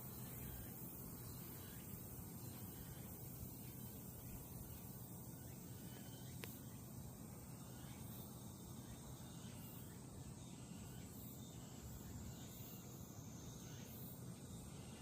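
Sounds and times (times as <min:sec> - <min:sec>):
high-pitched insect chirping: 0:00.0 - 0:15.0.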